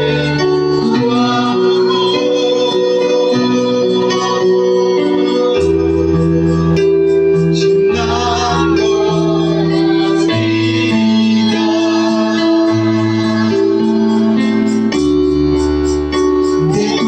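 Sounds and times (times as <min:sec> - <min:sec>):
deep bass line: 0:00.0 - 0:17.0
organ chords on keyboard: 0:00.0 - 0:17.0.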